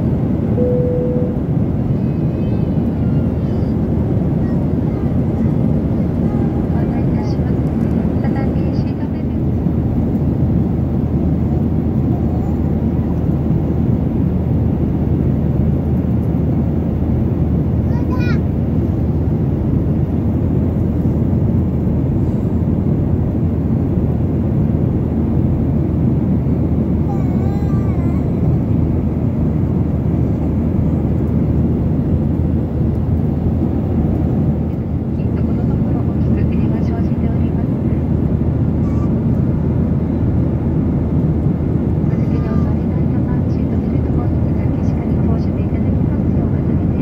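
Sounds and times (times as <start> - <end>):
jet cabin engine rumble: 0.0 - 47.0.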